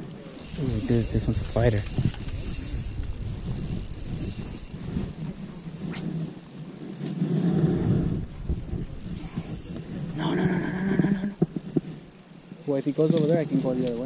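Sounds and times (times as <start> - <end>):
fishing reel clicking rapidly: 0.0 - 14.0.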